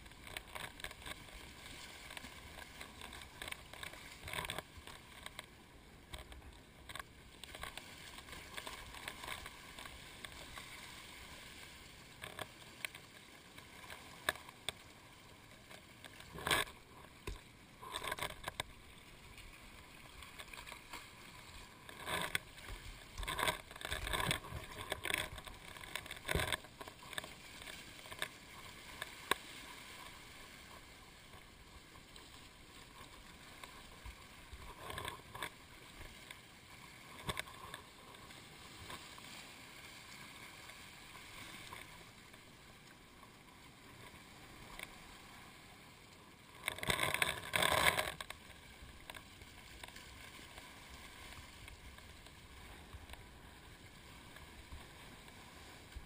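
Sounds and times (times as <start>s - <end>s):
water lapping and splashing: 0.0s - 56.0s.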